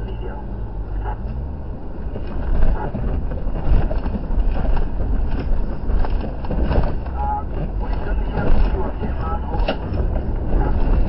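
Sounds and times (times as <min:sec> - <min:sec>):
off-road vehicle engine rumble: 0:00.0 - 0:11.0.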